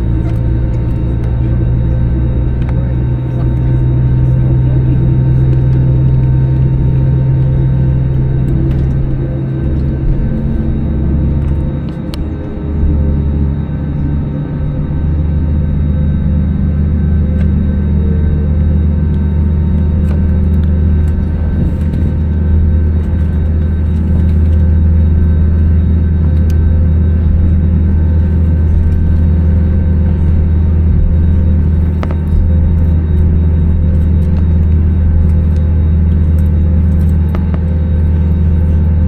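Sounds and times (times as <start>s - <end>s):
airplane cabin rumble: 0.0s - 39.0s.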